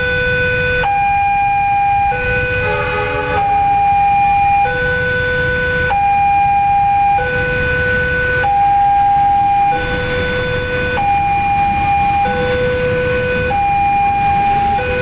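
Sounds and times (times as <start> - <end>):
low rumble of traffic: 0.0 - 15.0
two-tone electronic alarm: 0.0 - 15.0.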